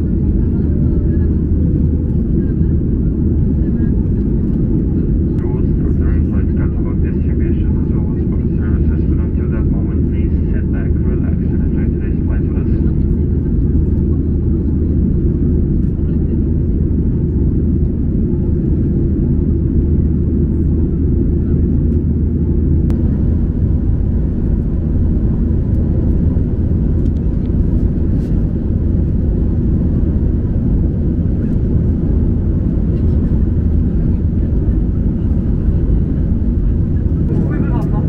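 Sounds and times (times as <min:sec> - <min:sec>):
airplane cabin roar: 0:00.0 - 0:38.0.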